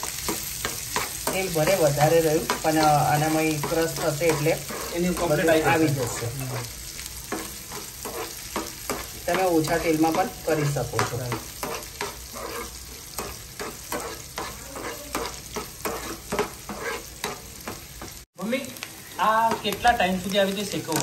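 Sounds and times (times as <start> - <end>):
spices sizzling in hot oil: 0.0 - 21.0
steel spoon scraping pan: 0.1 - 18.2.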